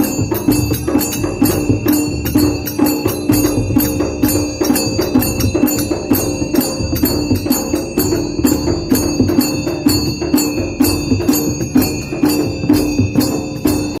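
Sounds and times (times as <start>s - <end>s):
dhol drumming: 0.0s - 14.0s
jingling metal percussion: 0.0s - 14.0s.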